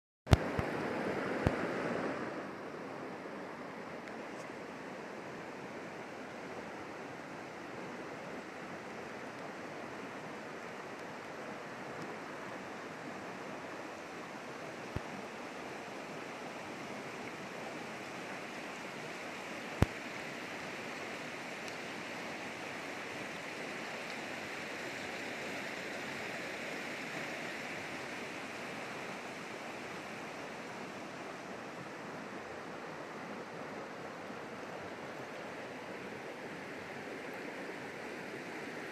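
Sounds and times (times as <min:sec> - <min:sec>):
creek water rushing over stones: 0:00.3 - 0:38.9.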